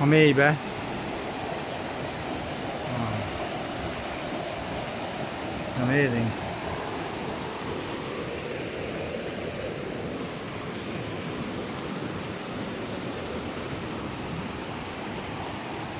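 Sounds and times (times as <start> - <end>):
river rushing over rocks: 0.0 - 15.9.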